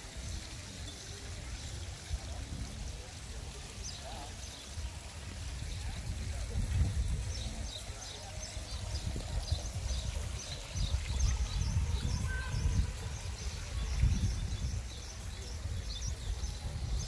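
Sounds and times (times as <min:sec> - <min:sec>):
small birds chirping: 0:03.1 - 0:17.0.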